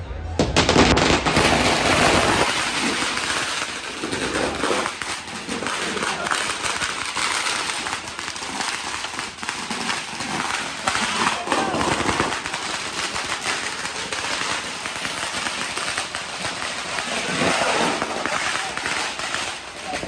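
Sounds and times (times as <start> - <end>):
firecrackers cracking and popping: 0.3 - 20.0.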